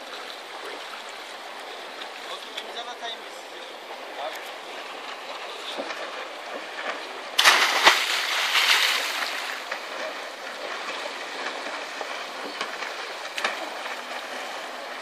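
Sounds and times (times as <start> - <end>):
distant jet ski engine: 0.0 - 15.0
water noise: 0.0 - 15.0.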